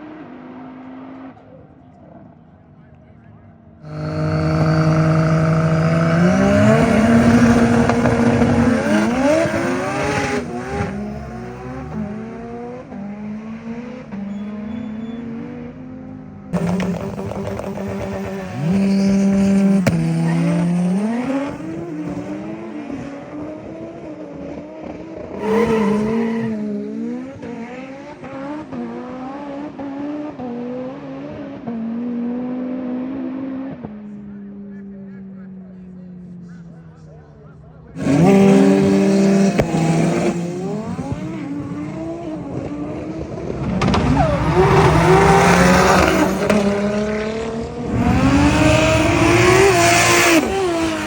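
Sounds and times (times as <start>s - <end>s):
car engines revving and accelerating: 0.0s - 51.0s.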